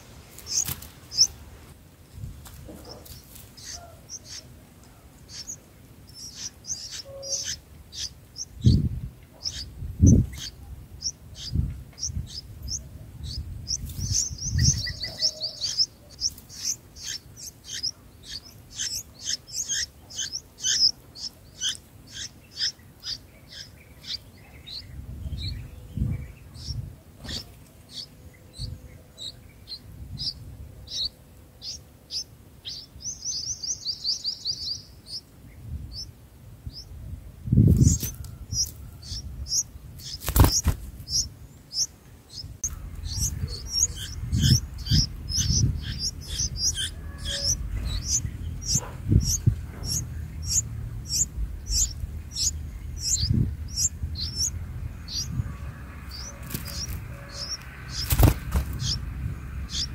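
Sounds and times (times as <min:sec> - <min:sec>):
nestlings chirping: 0:00.0 - 0:01.7, 0:02.7 - 0:59.9.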